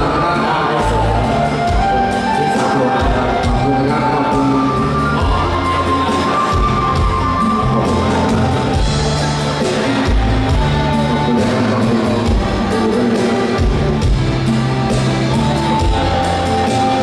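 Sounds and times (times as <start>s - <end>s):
bass notes: 0.0s - 17.0s
keyboard melody: 0.0s - 17.0s
steady drum beat: 0.0s - 17.0s.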